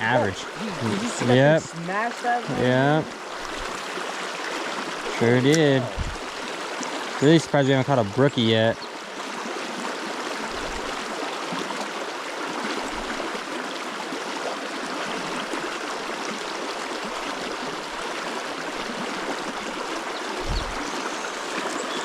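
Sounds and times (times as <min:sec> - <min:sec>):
river flowing over rocks: 0:00.0 - 0:22.0.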